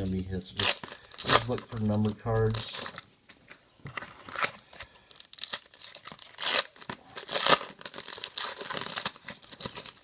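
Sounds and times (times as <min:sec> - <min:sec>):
card wrappers tearing and crinkling: 0:00.0 - 0:10.0.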